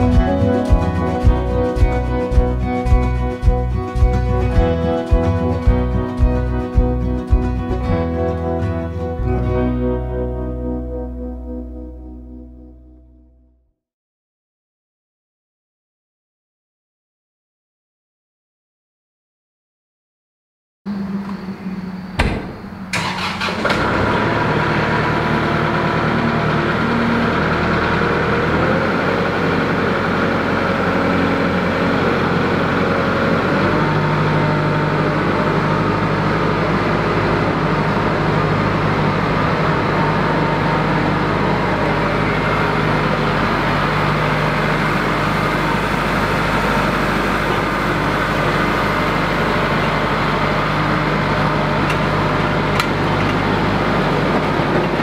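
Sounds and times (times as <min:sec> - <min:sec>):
tractor diesel engine running: 0:00.0 - 0:12.5, 0:20.9 - 0:55.0.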